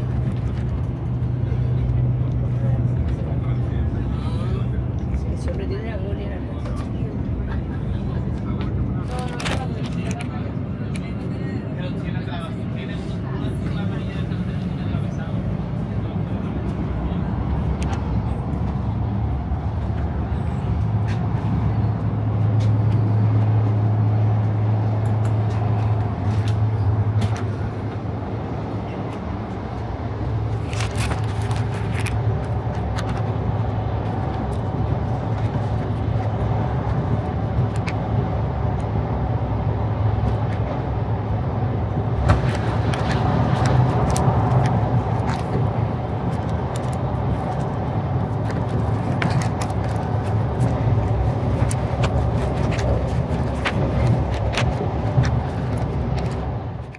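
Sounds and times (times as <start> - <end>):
train cabin rumble: 0.0 - 56.9.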